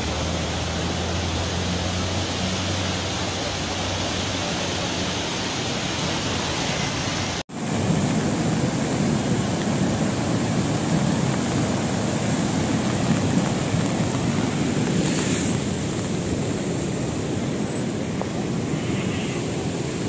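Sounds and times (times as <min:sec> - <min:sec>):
river rushing roar: 0:00.0 - 0:20.0.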